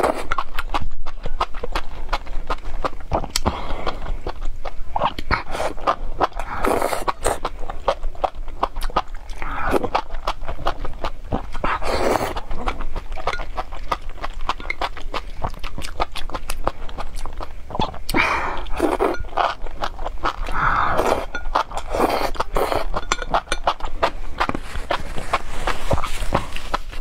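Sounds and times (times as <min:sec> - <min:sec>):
wet chewing with mouth clicks: 0:00.0 - 0:27.0
slurping: 0:01.7 - 0:27.0.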